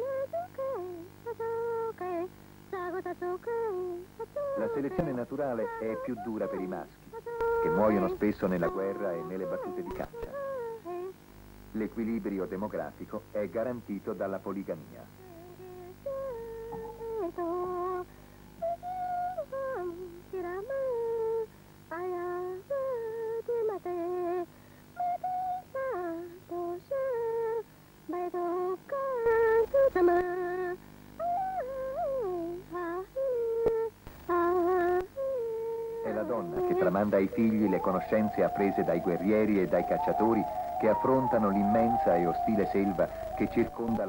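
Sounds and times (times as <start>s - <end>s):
woman singing a slow chant: 0.0s - 11.2s, 15.2s - 44.0s.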